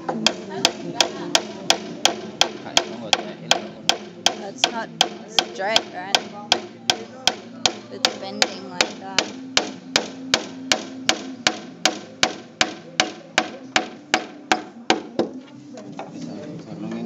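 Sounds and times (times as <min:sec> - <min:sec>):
hammer blows on bamboo: 0:00.0 - 0:15.4.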